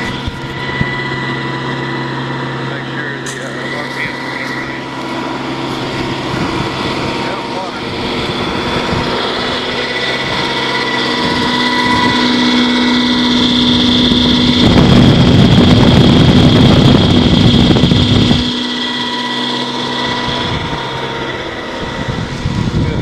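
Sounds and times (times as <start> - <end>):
generator engine humming: 0.0 - 23.0
loud rushing noise: 2.5 - 23.0.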